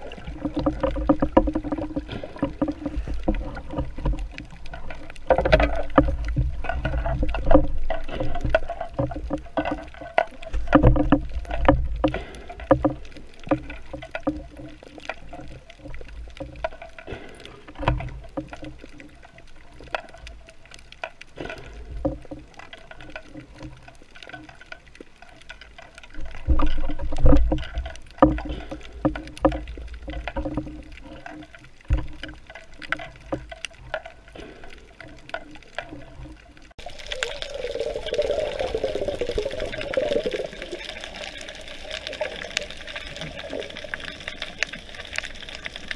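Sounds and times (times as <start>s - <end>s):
water clicks and surges: 0.0s - 45.9s.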